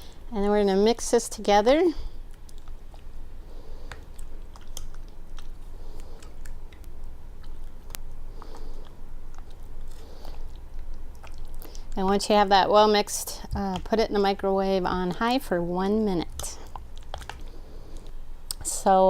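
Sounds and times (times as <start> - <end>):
thick mixture stirred in bowl: 0.0 - 19.0.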